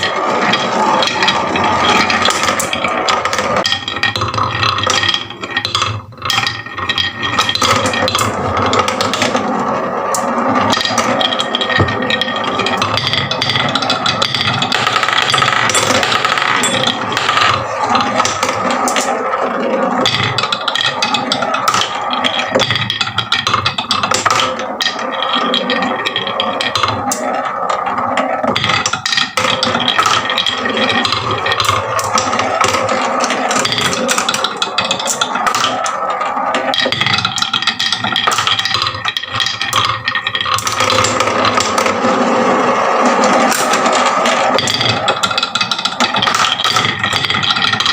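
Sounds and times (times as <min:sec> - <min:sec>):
marbles clattering down wooden run: 0:00.0 - 0:47.9.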